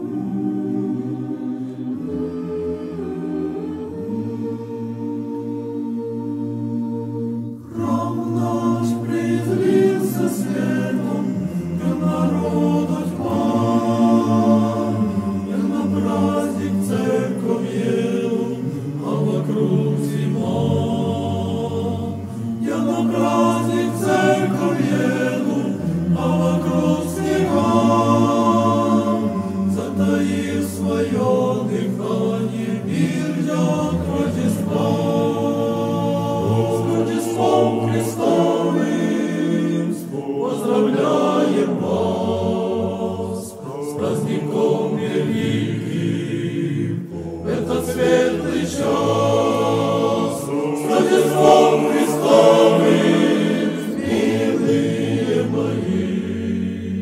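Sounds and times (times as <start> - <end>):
choir singing a cappella chant: 0.0 - 57.0.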